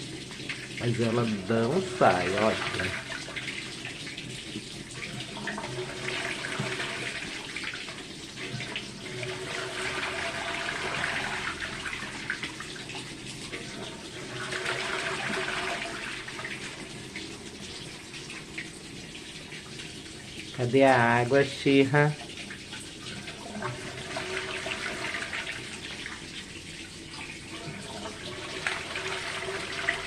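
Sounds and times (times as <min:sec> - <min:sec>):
water running from a tap: 0:00.0 - 0:30.0.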